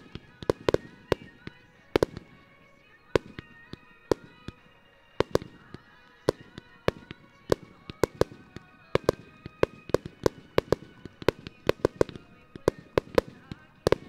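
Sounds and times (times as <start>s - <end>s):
fireworks bursting with sharp bangs: 0.0s - 14.0s
music with sustained notes: 0.0s - 14.0s.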